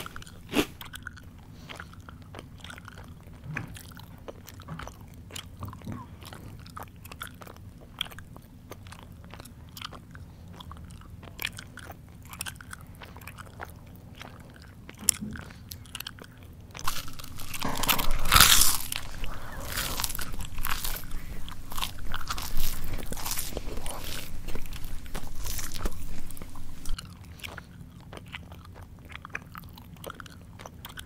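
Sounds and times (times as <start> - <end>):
crunching crisp food: 0.0 - 31.0
mouth chewing wet smacks: 0.0 - 31.0.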